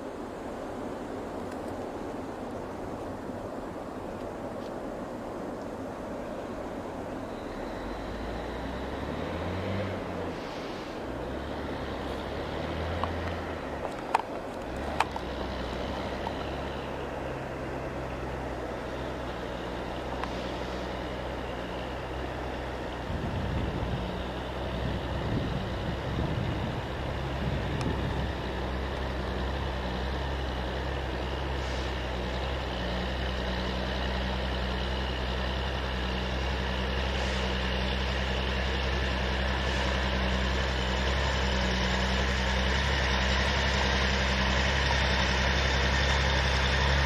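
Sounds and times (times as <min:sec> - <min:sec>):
truck diesel engine running: 0:06.3 - 0:47.0.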